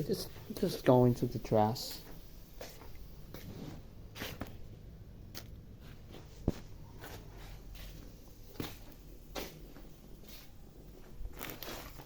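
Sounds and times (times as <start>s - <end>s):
objects rustling and being handled: 1.8s - 12.0s.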